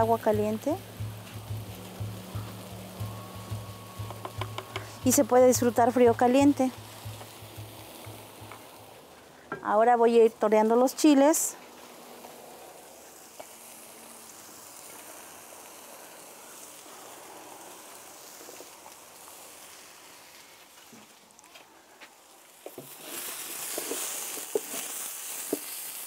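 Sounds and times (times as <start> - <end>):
vegetables sizzling on hot griddle: 0.0 - 26.0.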